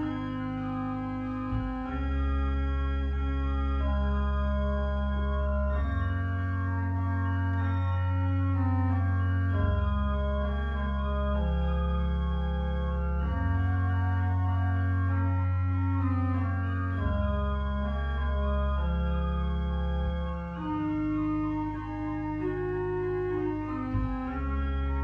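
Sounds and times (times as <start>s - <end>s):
church organ chords: 0.0s - 25.0s.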